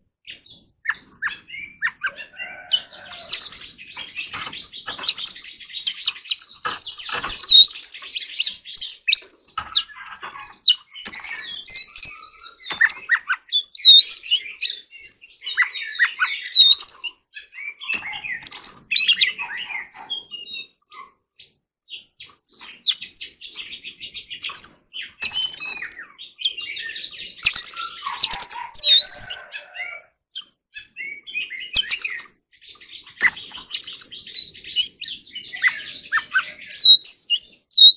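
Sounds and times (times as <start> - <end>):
bird singing whistles and trills: 0.3 - 37.9.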